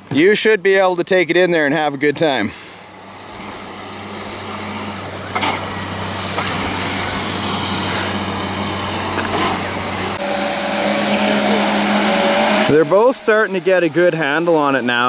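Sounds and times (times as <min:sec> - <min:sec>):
electric boat motor whine: 0:02.9 - 0:15.0.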